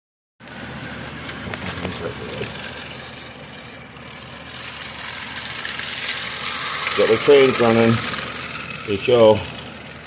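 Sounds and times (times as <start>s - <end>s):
model train motor whirring: 0.7s - 10.0s.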